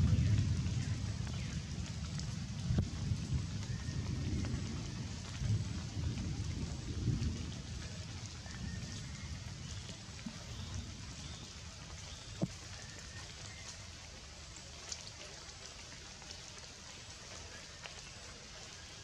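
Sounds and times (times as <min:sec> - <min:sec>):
rain falling on leaves: 0:00.0 - 0:19.0
single raindrops striking close: 0:00.0 - 0:19.0.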